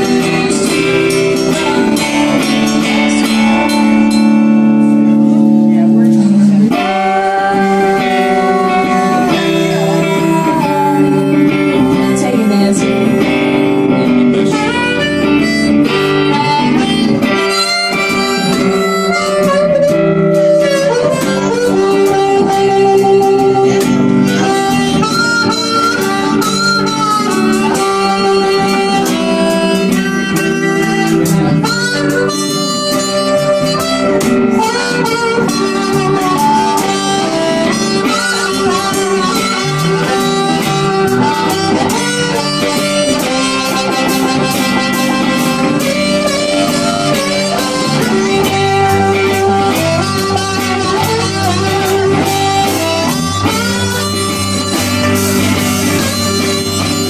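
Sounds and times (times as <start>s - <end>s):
bass guitar: 0.0s - 57.0s
drums: 0.0s - 57.0s
electric guitar: 0.0s - 57.0s
harmonica lead line: 0.0s - 57.0s.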